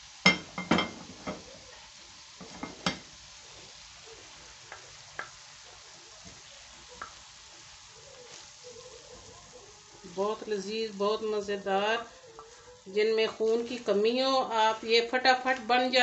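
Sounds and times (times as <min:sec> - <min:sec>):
faint sizzle: 0:00.0 - 0:16.0.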